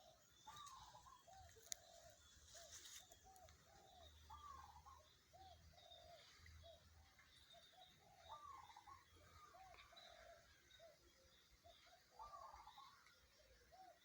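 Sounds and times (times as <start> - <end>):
bird calls arched notes: 0.0 - 11.0, 11.6 - 13.1
high faint bird twittering: 0.0 - 14.0.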